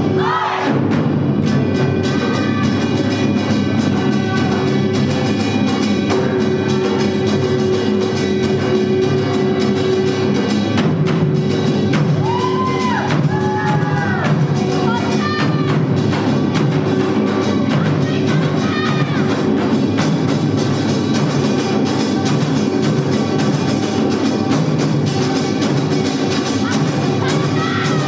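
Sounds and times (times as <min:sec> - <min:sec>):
drums beating dense rhythm: 0:00.0 - 0:28.0.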